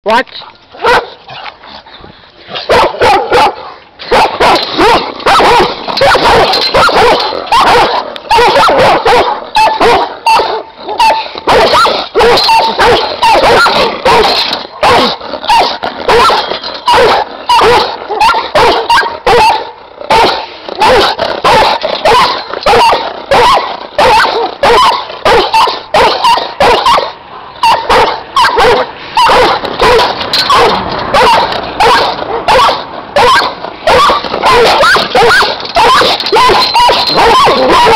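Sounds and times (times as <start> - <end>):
dogs barking loudly: 0.7 - 37.9.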